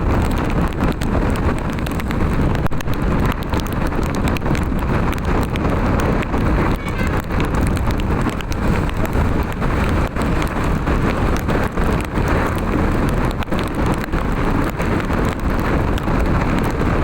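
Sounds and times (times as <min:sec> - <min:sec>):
rain and wind on microphone: 0:00.0 - 0:17.0
raindrop ticks: 0:00.0 - 0:17.0.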